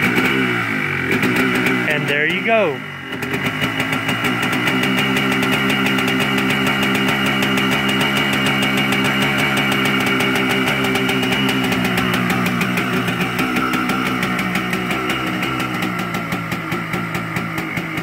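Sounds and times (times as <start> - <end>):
two-stroke engine idling: 0.0 - 18.0.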